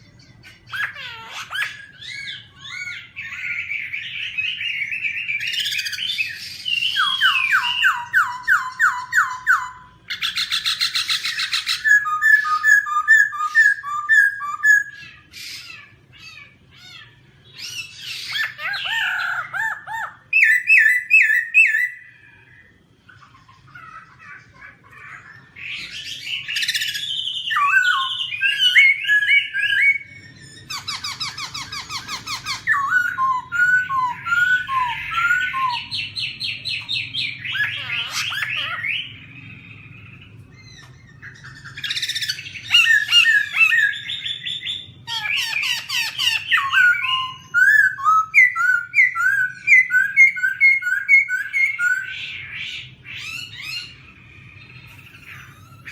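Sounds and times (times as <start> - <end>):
laughingthrush singing whistled song: 0.0 - 23.7, 24.7 - 55.9
harsh rattling bird call: 0.0 - 55.9.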